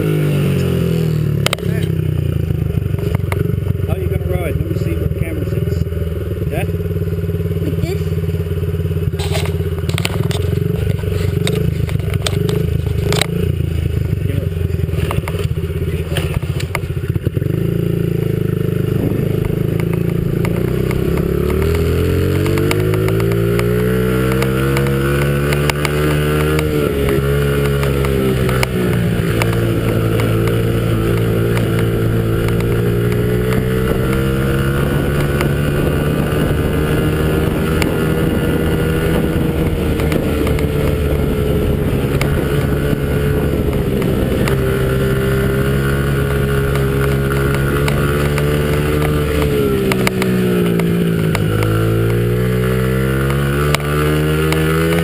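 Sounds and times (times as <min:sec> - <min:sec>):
dirt bike engine idling and revving: 0:00.0 - 0:55.0.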